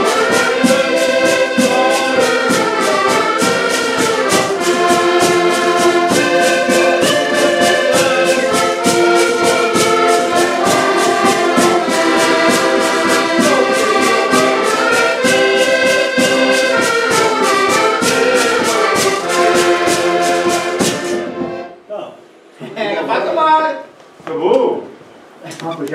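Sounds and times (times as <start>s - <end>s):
button accordions playing folk tune: 0.0s - 21.8s
percussion beat of sharp strikes: 0.0s - 21.8s.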